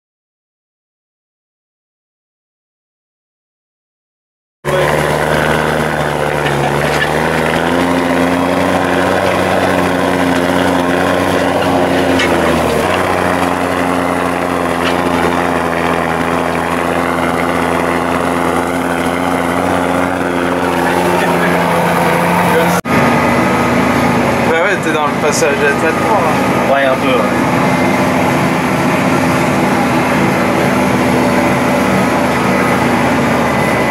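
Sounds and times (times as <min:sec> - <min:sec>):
tractor diesel engine under load: 0:04.7 - 0:33.9.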